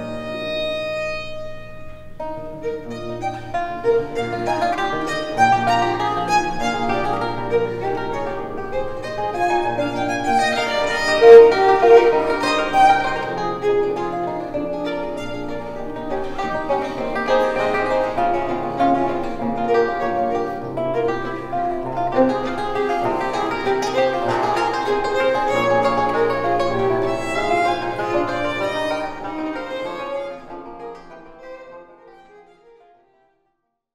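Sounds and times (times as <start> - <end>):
plucked string accompaniment: 0.0 - 33.3
baroque violin music: 0.0 - 33.4.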